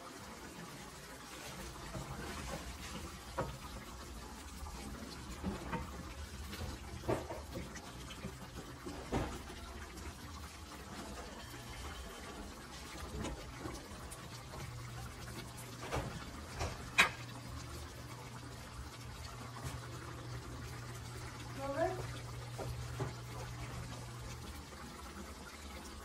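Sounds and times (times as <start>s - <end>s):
sauce simmering in skillet: 0.0s - 26.0s.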